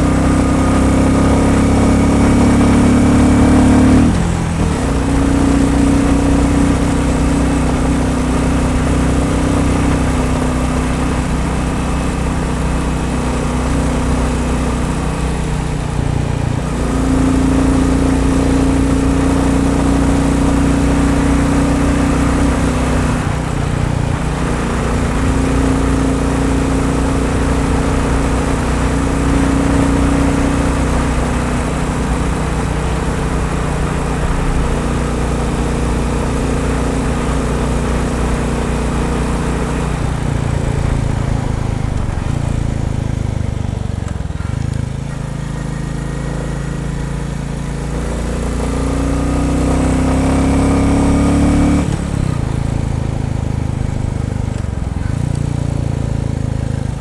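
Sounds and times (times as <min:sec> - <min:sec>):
motorcycle engine running under load: 0:00.0 - 0:57.0.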